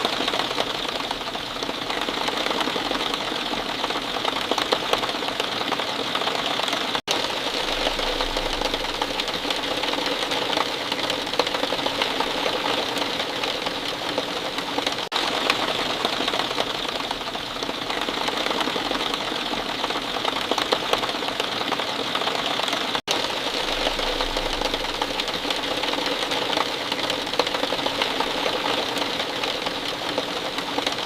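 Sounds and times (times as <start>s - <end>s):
steady rain pattering: 0.0s - 31.0s.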